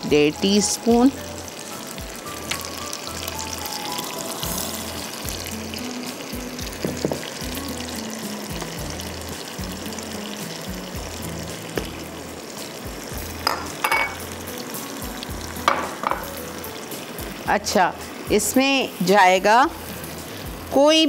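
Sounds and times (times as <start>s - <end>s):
background music: 0.0s - 21.0s
masala sizzling in a pan: 0.0s - 21.0s.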